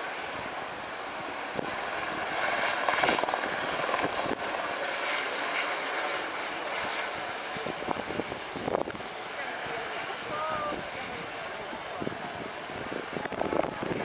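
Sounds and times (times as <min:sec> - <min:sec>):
helicopters flying over: 0:00.0 - 0:14.0.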